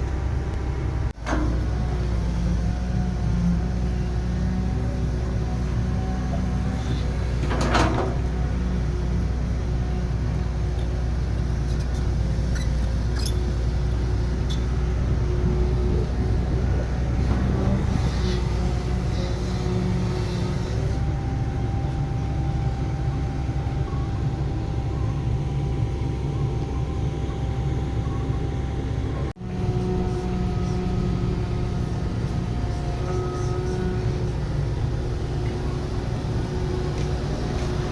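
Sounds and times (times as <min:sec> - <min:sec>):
diesel engine rumbling: 0:00.0 - 0:37.9.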